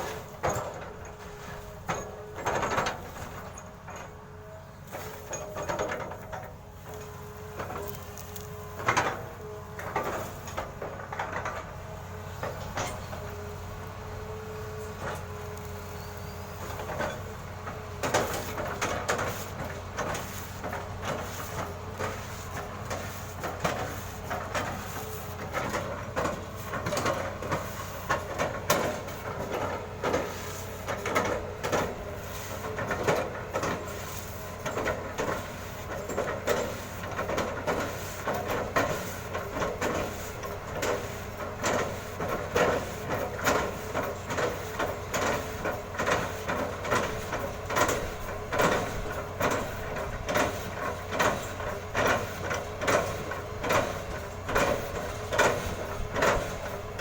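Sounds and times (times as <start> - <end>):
metal clanks and knocks: 0.0 - 4.3, 4.9 - 8.2, 8.8 - 13.4, 16.6 - 57.0
excavator engine drone: 0.0 - 57.0.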